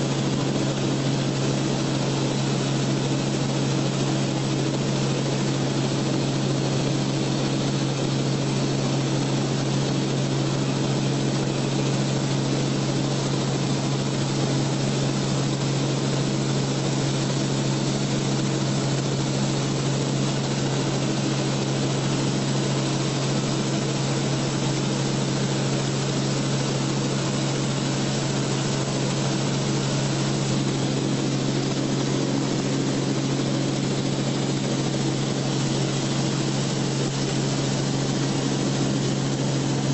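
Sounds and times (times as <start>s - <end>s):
aircraft engine hum in cabin: 0.0s - 39.9s.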